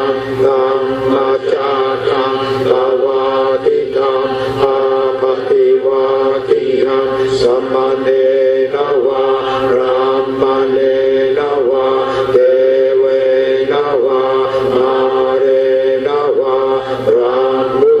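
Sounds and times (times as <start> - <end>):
voices chanting: 0.0 - 18.0.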